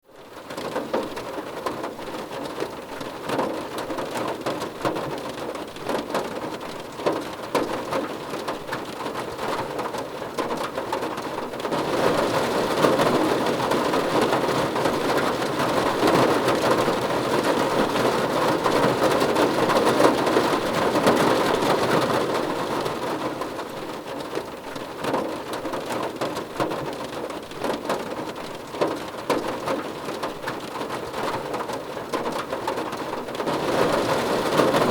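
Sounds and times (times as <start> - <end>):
rain pattering on car roof: 0.1 - 34.9.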